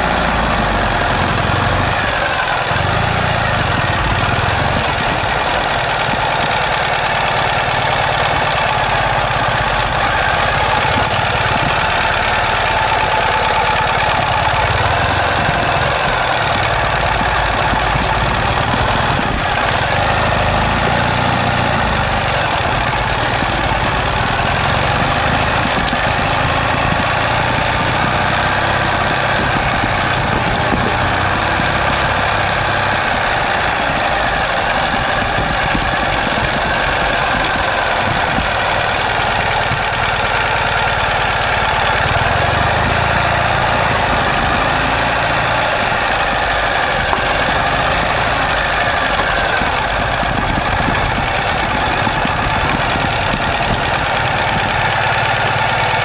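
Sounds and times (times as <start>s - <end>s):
motorcycle engine running at low revs: 0.0s - 56.0s.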